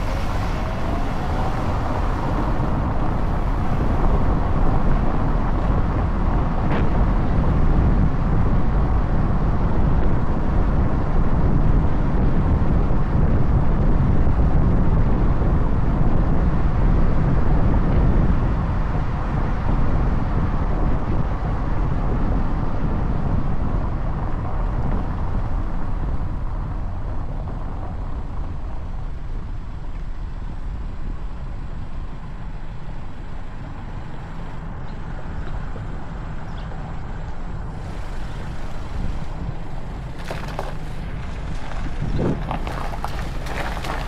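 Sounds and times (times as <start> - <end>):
motorcycle road noise: 0.0 - 44.0
wind rush: 0.0 - 44.0.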